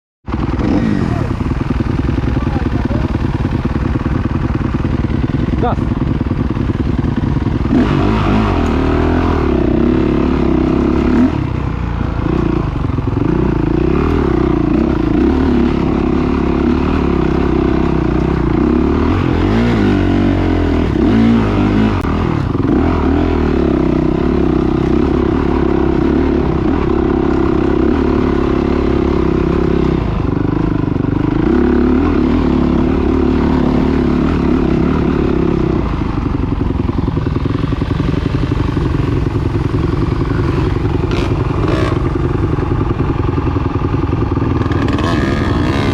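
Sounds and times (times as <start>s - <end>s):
motorcycle engines revving: 0.3s - 45.9s.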